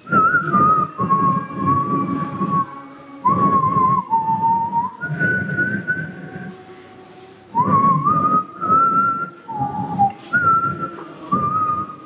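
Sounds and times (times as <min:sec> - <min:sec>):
man whistling a hymn tune: 0:00.0 - 0:06.8, 0:07.5 - 0:12.0.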